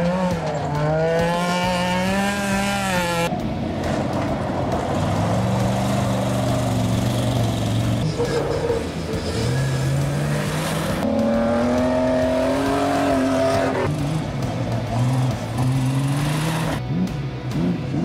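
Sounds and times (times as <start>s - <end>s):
truck engines accelerating: 0.0s - 18.0s.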